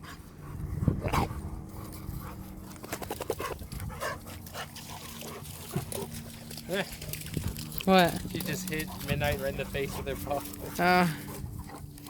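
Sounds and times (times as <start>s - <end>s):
dogs panting and scuffling: 0.0s - 12.0s.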